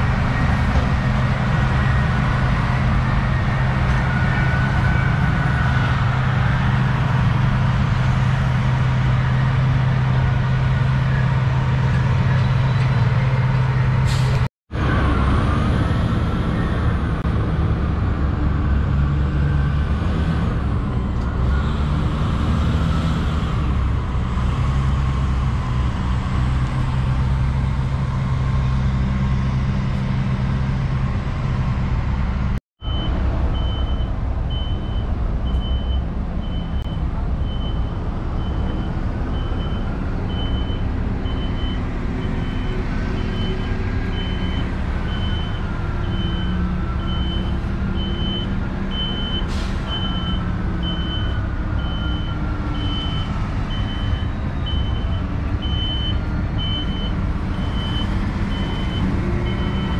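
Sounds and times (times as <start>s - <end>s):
diesel trucks engine drone: 0.0s - 59.9s.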